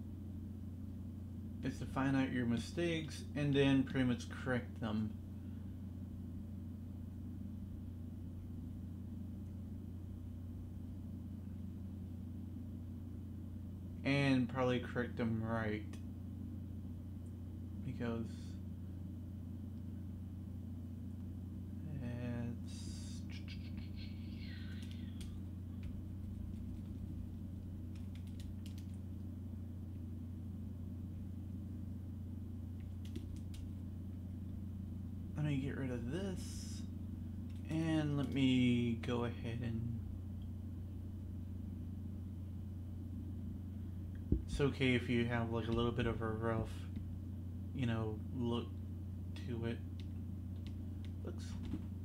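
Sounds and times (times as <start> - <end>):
low hum with faint hiss: 0.0 - 52.0.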